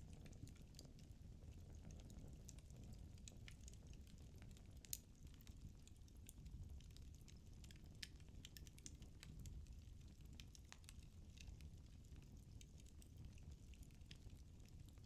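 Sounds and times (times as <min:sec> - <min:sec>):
firewood crackling and popping: 0:00.0 - 0:15.0
low rumble of fire: 0:00.0 - 0:15.0.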